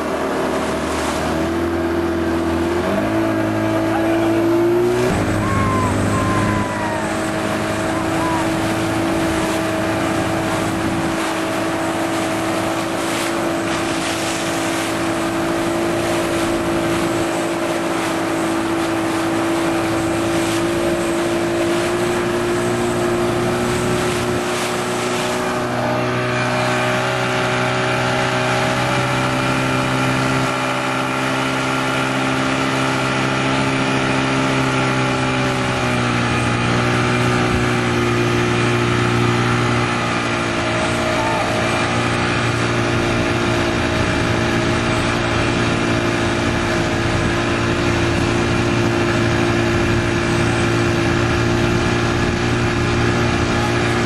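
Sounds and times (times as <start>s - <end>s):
motorboat engine running: 0.0s - 54.0s
water splashing against hull: 0.0s - 54.0s.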